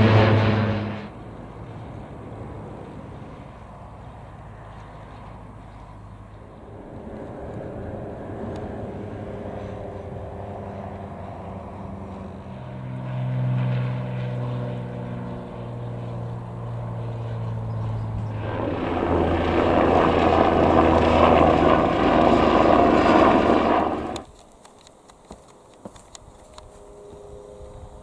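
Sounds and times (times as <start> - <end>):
plane rushing pass overhead: 0.0 - 24.3, 26.0 - 28.0
propeller plane engine drone: 0.0 - 28.0.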